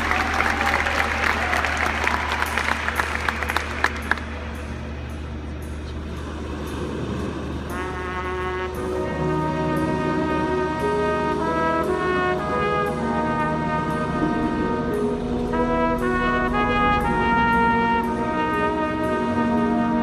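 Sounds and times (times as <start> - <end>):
brass chords: 2.4 - 20.0.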